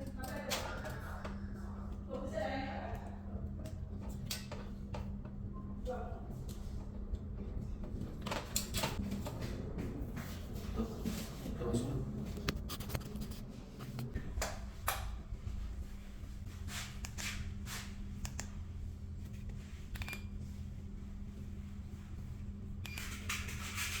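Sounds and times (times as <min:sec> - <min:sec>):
ceiling fan motor humming: 0:00.0 - 0:24.0.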